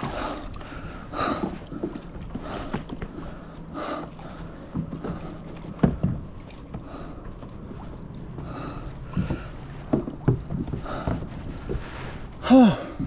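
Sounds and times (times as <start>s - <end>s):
knocks and thumps on boat: 0.0s - 13.0s
water sloshing against hull: 0.0s - 13.0s.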